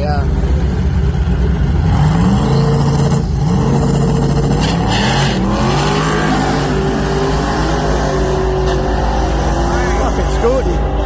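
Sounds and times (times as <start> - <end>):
drag car engine at full throttle: 0.0 - 11.0.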